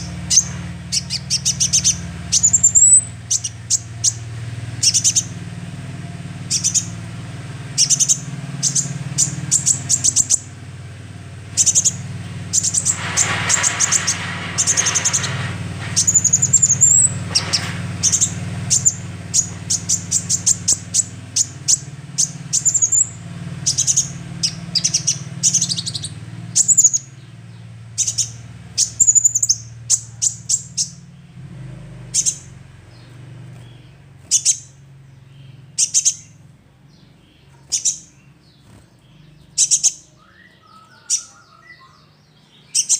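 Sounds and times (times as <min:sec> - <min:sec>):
bird chirping and trilling: 0:00.0 - 0:31.4, 0:32.0 - 0:42.9.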